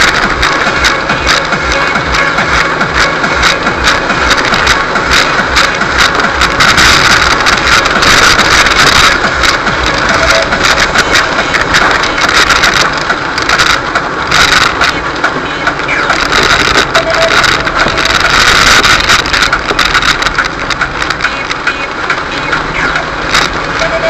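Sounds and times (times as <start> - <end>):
crackling water spray: 0.0 - 23.8
tyre and road noise: 0.0 - 24.0
van engine running: 0.0 - 24.0.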